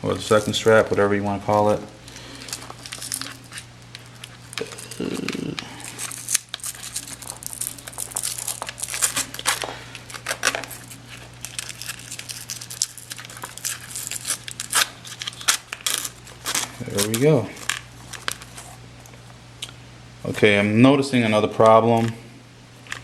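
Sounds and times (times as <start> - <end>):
strap rustling and scraping: 0.0 - 19.2
steady low hum: 0.0 - 23.0.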